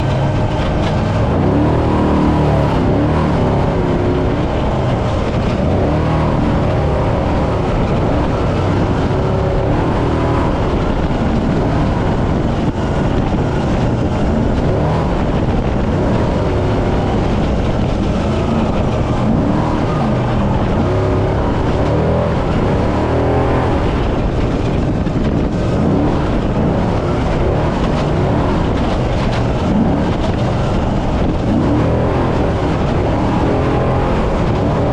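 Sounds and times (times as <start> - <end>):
truck engine revving: 0.0 - 34.9
truck rumble and rattle: 0.0 - 34.9.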